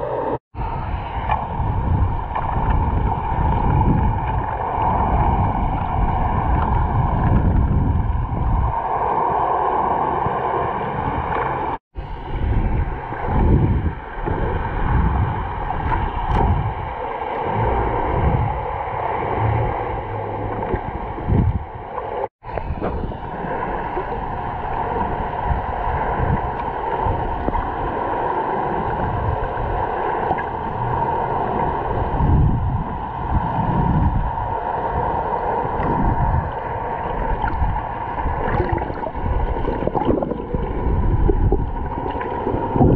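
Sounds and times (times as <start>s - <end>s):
steady hum: 0.0s - 42.9s
water rushing underwater: 0.0s - 42.9s.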